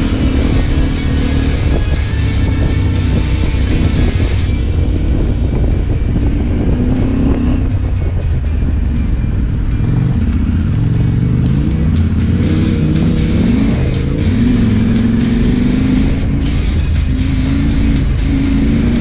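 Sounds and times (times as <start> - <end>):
background music: 0.0 - 19.0
motorcycle engine running: 0.0 - 19.0.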